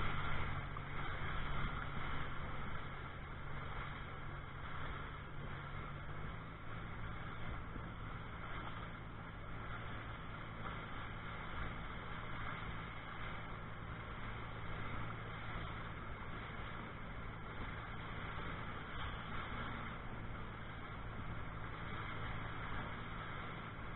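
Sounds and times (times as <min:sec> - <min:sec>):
boat engine droning: 0:00.0 - 0:23.9
water rushing past hull: 0:00.0 - 0:23.9
wind: 0:00.0 - 0:23.9.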